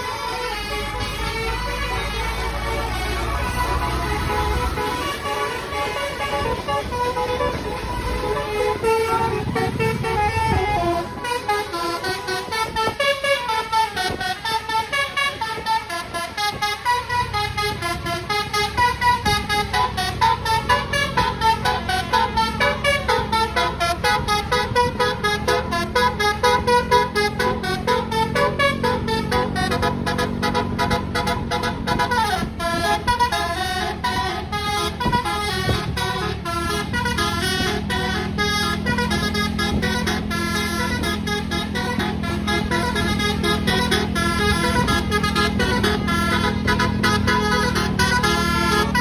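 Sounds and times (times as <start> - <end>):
bus engine rumble: 0.0 - 49.0
bus musical horn tune: 0.0 - 49.0.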